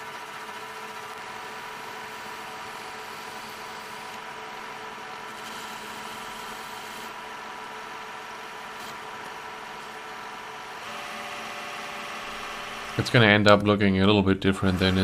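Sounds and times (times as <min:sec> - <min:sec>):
machine tool motor hum: 0:00.0 - 0:13.6, 0:14.5 - 0:15.0.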